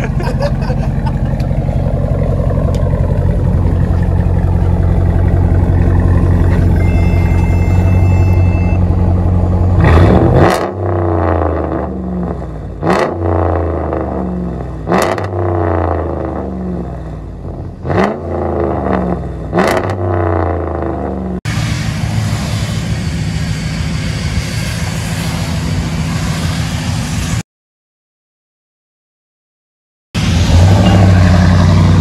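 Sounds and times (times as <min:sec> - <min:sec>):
engine idling and revving: 0:00.0 - 0:27.4, 0:30.2 - 0:32.0
engine rumble while driving: 0:00.0 - 0:27.4, 0:30.2 - 0:32.0.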